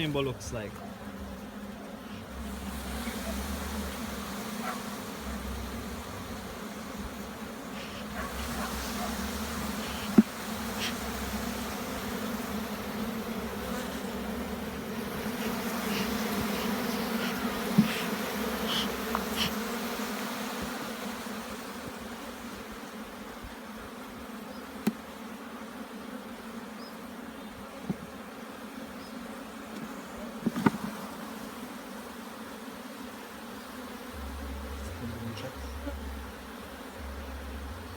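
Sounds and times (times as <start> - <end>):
honey bees buzzing: 0.0 - 37.9.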